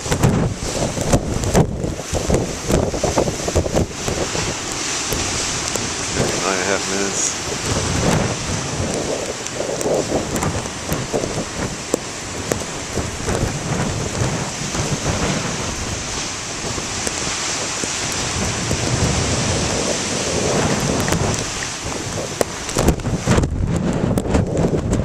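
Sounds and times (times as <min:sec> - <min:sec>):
rain: 0:00.0 - 0:25.0
surf breaking ashore: 0:00.0 - 0:25.0
wind blowing on microphone: 0:00.0 - 0:25.0.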